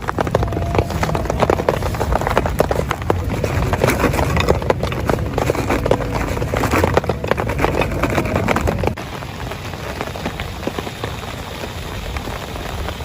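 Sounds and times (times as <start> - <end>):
heavy rain: 0.0 - 13.0
soft steady rain hiss: 0.0 - 13.0.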